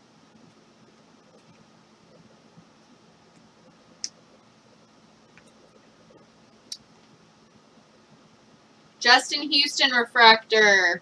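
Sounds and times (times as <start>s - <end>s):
quiet hiss: 0.0s - 11.0s.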